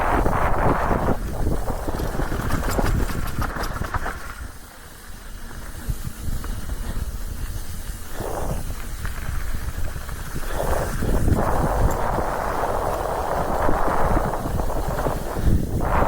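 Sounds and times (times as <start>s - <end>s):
bike clicks and rattles: 0.0s - 16.0s
low rumble of tyres: 0.0s - 16.0s
wind buffeting microphone: 0.0s - 16.0s.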